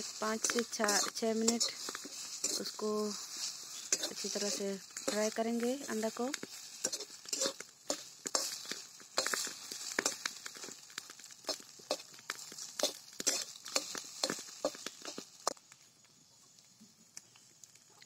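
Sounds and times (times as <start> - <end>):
metal spatula scraping a pan: 0.0 - 10.8, 11.4 - 15.3
egg sizzling in oil: 0.0 - 18.0.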